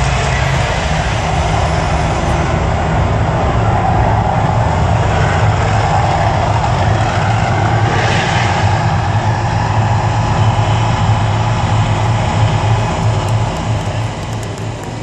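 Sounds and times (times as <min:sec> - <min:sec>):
fire effects roaring: 0:00.0 - 0:15.0
low rumble: 0:00.0 - 0:15.0.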